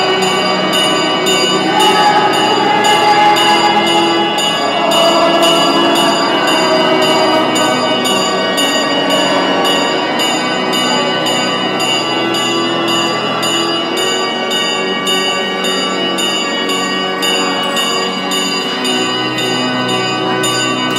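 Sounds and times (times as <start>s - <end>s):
church bells pealing: 0.0s - 20.9s.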